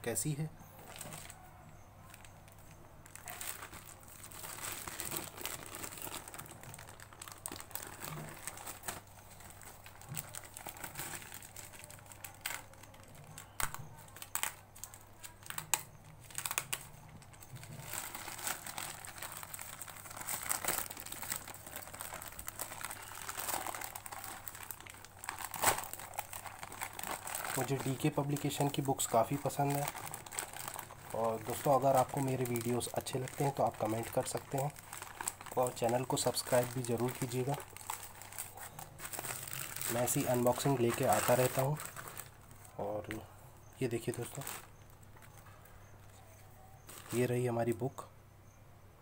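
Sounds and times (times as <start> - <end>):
plastic mailer bag crinkling: 0.2 - 45.6, 46.8 - 47.5
plastic tearing: 0.8 - 1.4, 2.0 - 42.7, 43.9 - 45.4.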